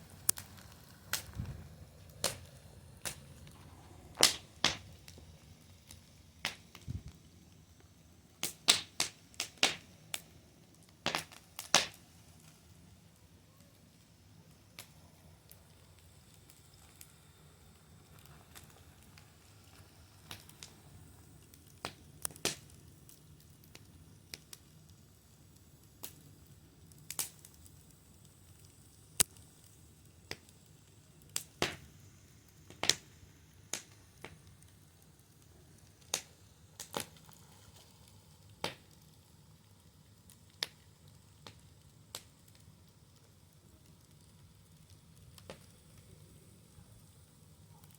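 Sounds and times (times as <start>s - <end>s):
faint steady hiss: 0.0s - 47.9s
fire crackling and popping: 0.0s - 47.9s.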